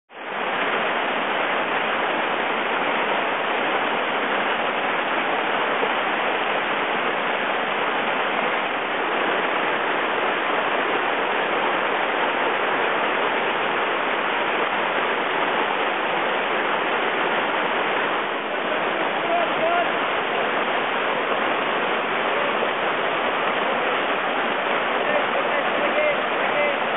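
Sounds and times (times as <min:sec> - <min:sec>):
river rapids rushing: 0:00.1 - 0:26.9.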